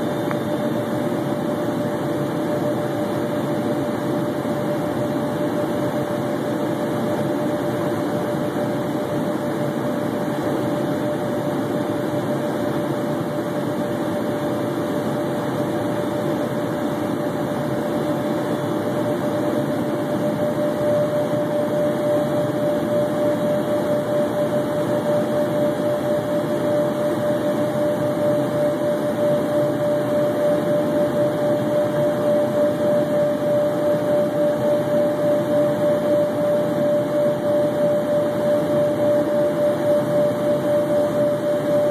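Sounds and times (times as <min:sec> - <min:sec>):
jet cabin engine hum: 0:00.0 - 0:41.9
steady whine: 0:00.0 - 0:41.9.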